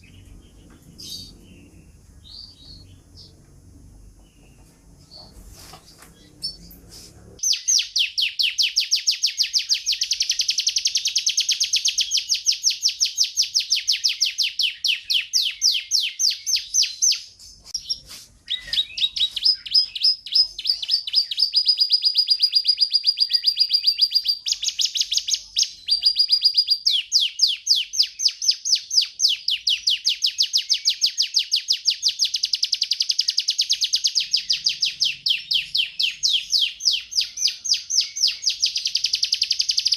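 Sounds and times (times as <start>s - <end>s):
canary trilling: 0.0s - 3.4s, 7.4s - 39.9s.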